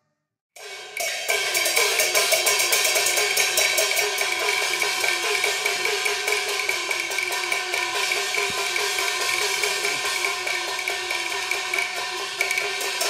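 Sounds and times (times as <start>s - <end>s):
cymbals struck: 0.6s - 13.0s
gongs with bending pitch: 0.6s - 13.0s.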